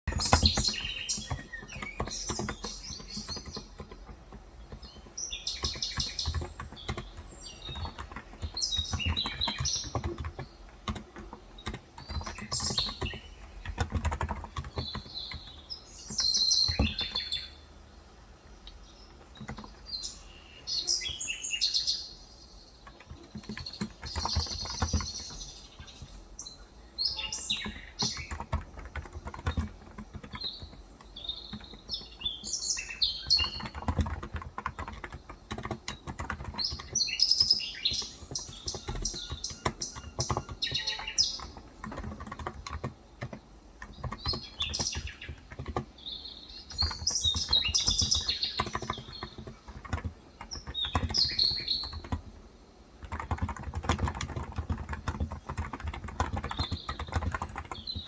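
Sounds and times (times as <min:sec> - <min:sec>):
small birds chirping: 0:00.0 - 0:58.0
keyboard typing: 0:00.1 - 0:17.5, 0:18.6 - 0:20.3, 0:22.6 - 0:58.0.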